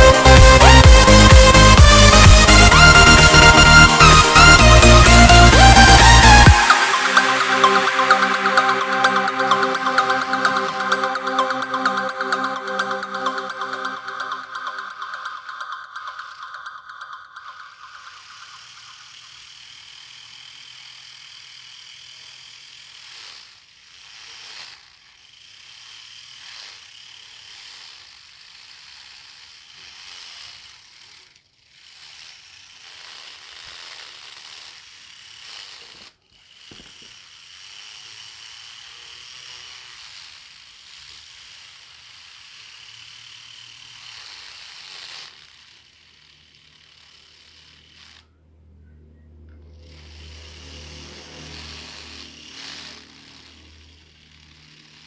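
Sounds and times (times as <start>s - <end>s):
small electric motor and gears whirring: 0.0s - 48.6s, 49.4s - 55.0s.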